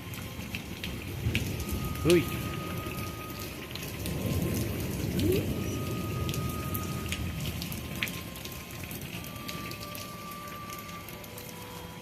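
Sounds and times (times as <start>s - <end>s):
heavy rain falling: 0.0s - 12.0s
raindrop ticks: 0.0s - 12.0s.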